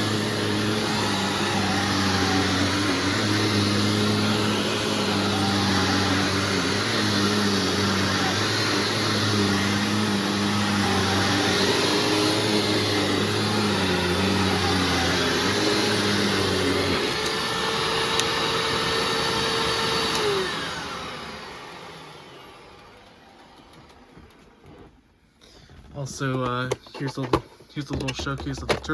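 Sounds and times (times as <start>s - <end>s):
motor winding down whine: 0.0s - 24.0s
upright vacuum running: 0.0s - 24.9s.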